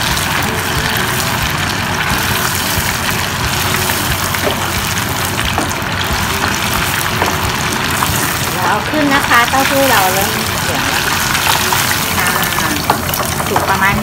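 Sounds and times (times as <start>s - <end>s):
tofu deep-frying in oil: 0.0s - 14.0s.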